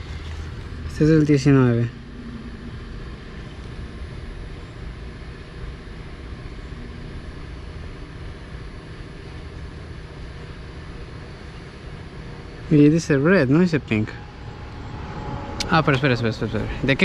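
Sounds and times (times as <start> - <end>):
outdoor background rumble and hiss: 0.0 - 17.0.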